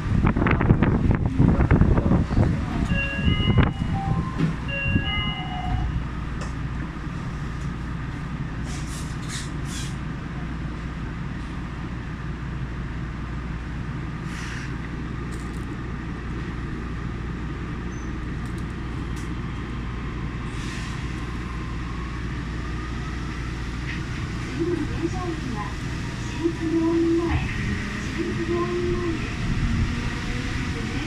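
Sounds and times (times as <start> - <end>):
monorail cabin low rumble: 0.0 - 31.0.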